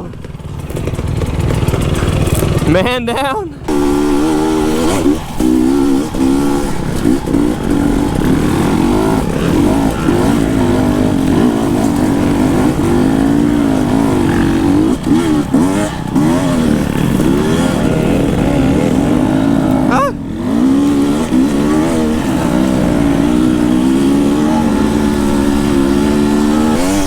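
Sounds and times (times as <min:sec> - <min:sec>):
two-stroke dirt bike revving: 0:00.0 - 0:27.0.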